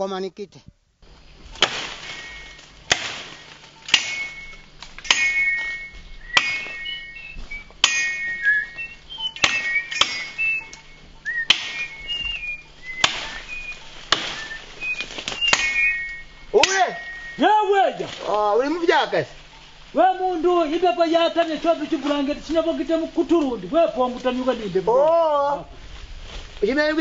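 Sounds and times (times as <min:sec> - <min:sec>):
machete chopping branches: 0:01.0 - 0:25.2
high whistled chirps: 0:01.0 - 0:25.8.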